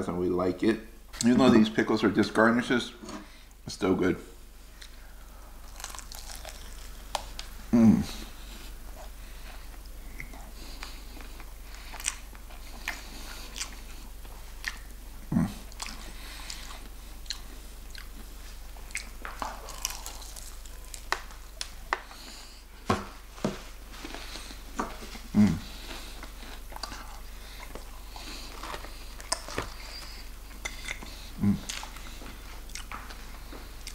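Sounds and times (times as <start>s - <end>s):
crunchy chewing of fried chicken: 4.7s - 22.7s, 23.8s - 33.9s.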